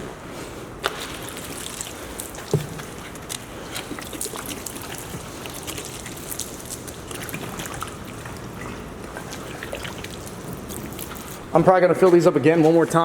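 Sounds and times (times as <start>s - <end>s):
water dripping and trickling: 0.8s - 13.0s
water pouring and splashing: 0.8s - 13.0s.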